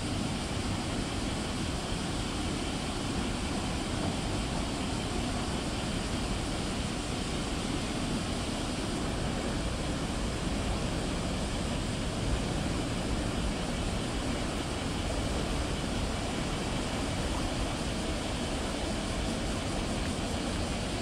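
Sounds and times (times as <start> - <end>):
steady outdoor rumble: 0.0 - 21.0.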